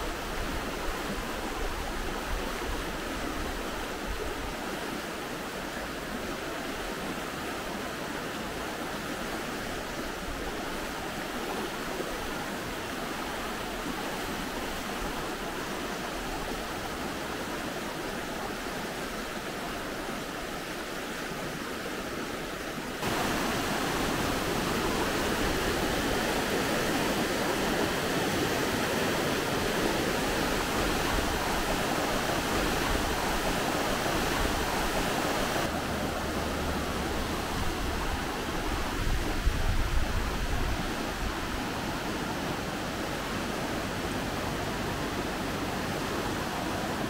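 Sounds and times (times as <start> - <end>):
river rushing over stones: 0.0 - 47.0.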